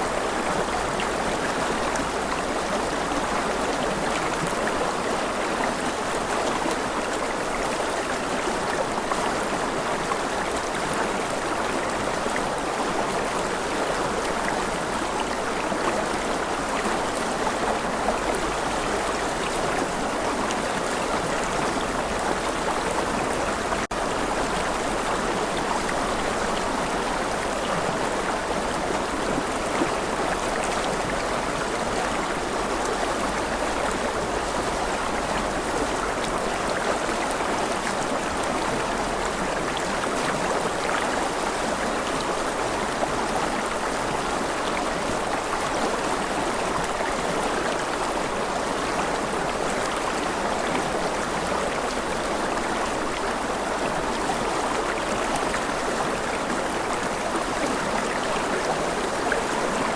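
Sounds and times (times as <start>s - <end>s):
stream of running water: 0.0s - 59.9s.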